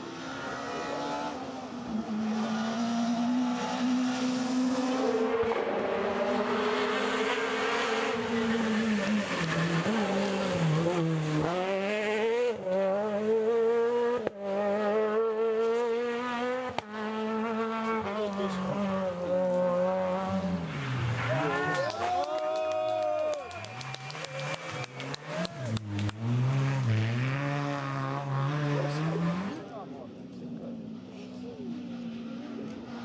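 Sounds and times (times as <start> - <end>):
rally car engine revving: 0.0 - 22.1, 23.0 - 33.0.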